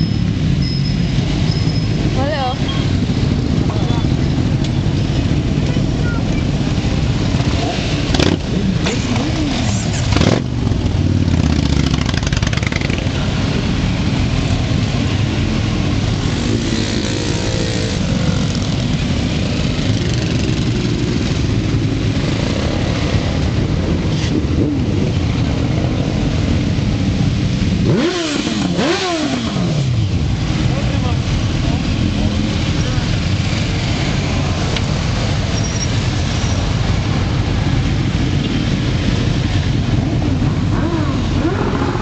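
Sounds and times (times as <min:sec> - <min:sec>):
motorcycle engines rumbling: 0:00.0 - 0:42.0.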